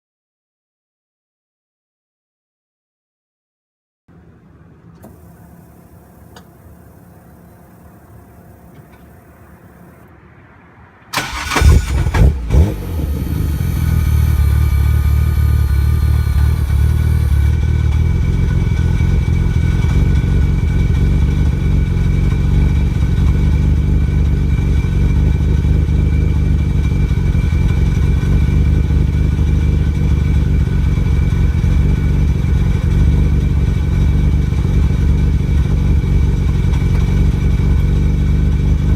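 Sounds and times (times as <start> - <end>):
car engine starting and idling: 4.1 - 38.9.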